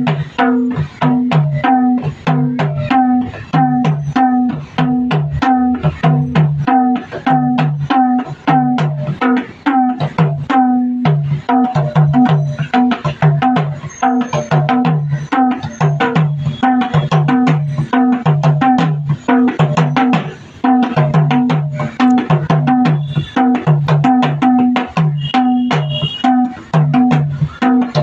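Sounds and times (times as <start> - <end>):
hand drum playing fast rhythm: 0.0 - 28.0.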